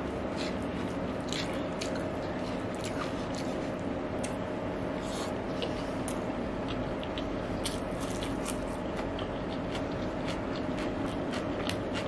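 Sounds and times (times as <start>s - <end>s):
steady background hum: 0.0s - 12.0s
person chewing food: 0.2s - 12.0s.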